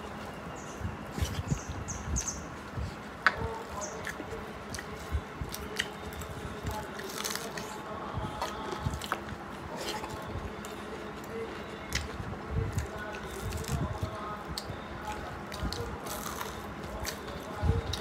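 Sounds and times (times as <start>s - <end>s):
chewing and mouth noises: 1.1s - 18.0s.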